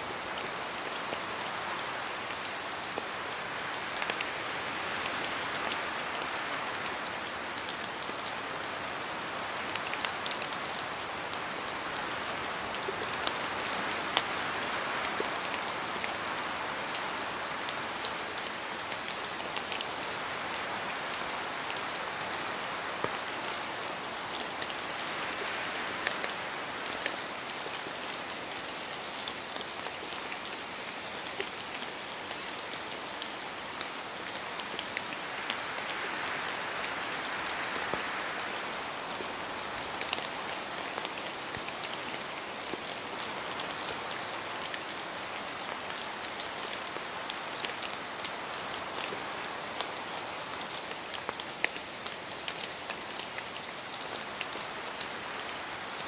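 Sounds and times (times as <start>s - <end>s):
raindrops ticking on leaves: 0.0s - 56.0s
steady rain falling: 0.0s - 56.0s.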